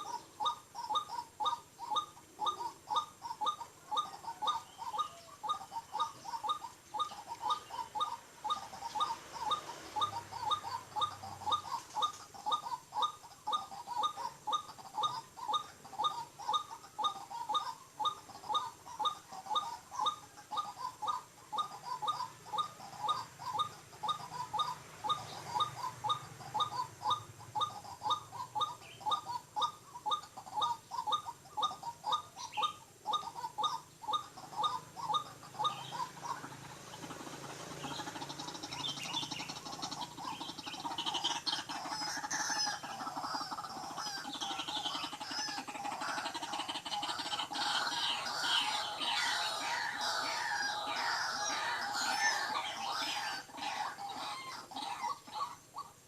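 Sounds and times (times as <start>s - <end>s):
waterhen calling: 0.0s - 56.0s.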